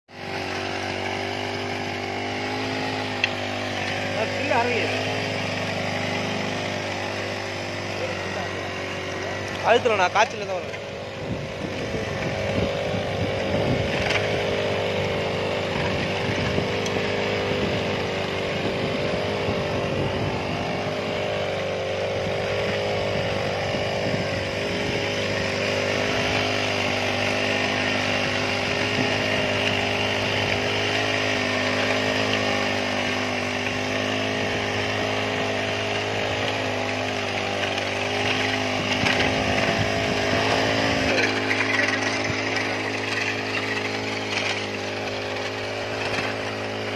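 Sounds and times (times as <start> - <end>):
brush cutter engine running: 0.1 - 46.9
tines churning soil: 0.1 - 46.9.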